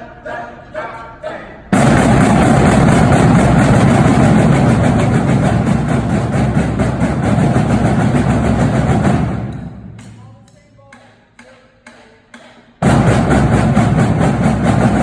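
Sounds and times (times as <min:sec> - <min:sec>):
drumline playing fast strokes: 0:01.7 - 0:15.0.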